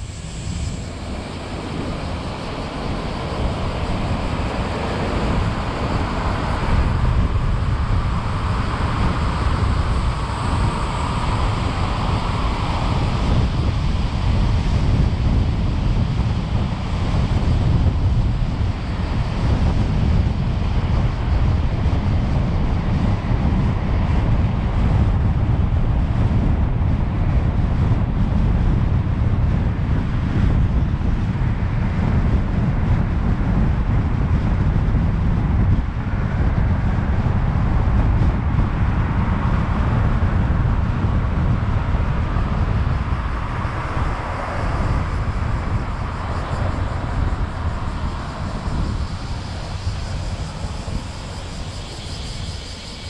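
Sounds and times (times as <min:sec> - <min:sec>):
car road noise rumble: 0:00.0 - 0:53.0
wind on microphone: 0:00.0 - 0:53.0.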